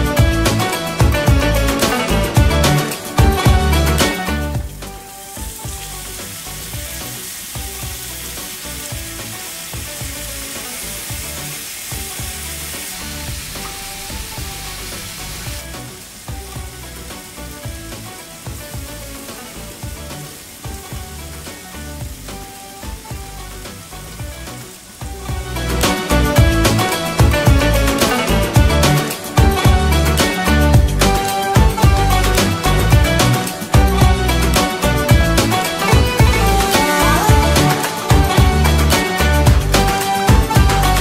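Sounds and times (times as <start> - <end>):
soft background music: 0.0 - 41.0
food sizzling in oil: 1.8 - 41.0.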